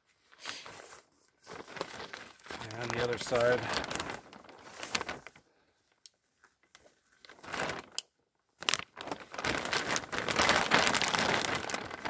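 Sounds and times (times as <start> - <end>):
plastic liner crinkling: 0.3 - 12.0.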